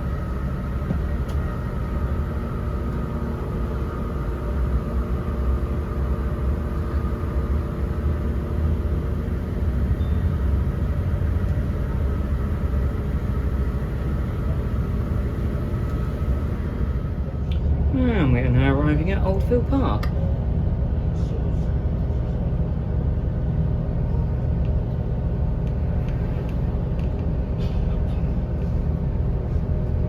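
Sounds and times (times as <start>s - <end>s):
train engine rumble: 0.0s - 30.0s.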